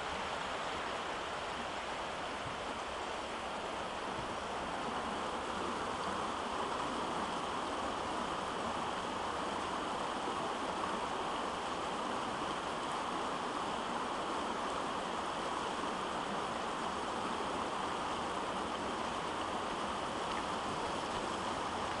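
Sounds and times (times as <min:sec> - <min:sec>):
stream running over rocks: 0:00.0 - 0:22.0.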